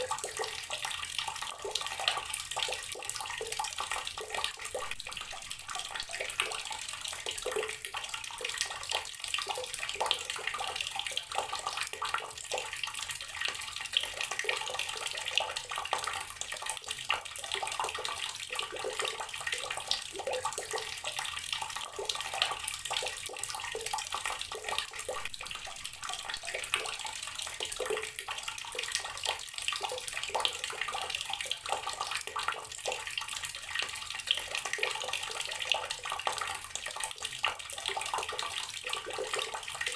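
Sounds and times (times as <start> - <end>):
water tap splashing into water: 0.0 - 39.9.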